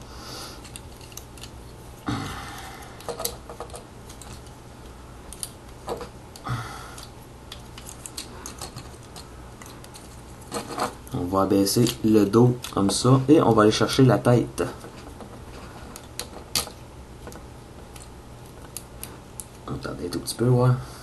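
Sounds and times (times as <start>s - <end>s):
steady low hum: 0.0s - 21.0s
scraping handling noises: 0.5s - 2.0s, 2.8s - 6.4s, 7.0s - 19.6s.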